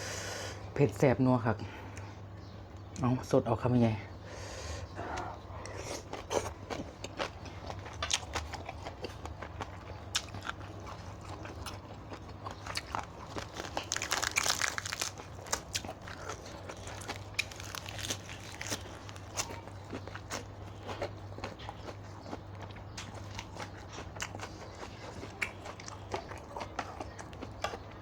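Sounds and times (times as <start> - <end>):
person chewing crunchy food: 4.9 - 28.0.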